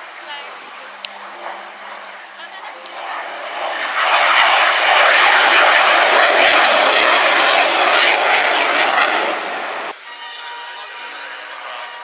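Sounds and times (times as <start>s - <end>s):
jet aircraft roar: 0.0s - 12.0s.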